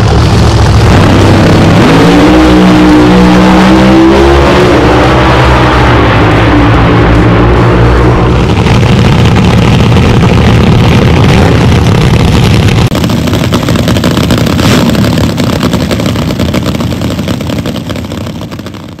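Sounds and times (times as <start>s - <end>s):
loud rough dragster engines running: 0.0s - 19.0s.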